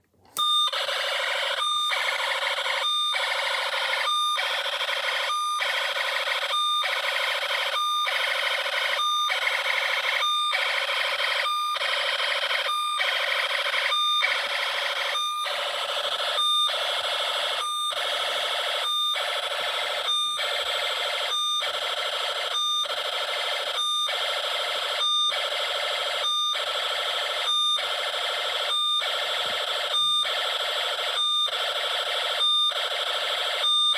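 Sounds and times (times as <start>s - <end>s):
pulsing alarm tone: 0.5s - 33.9s.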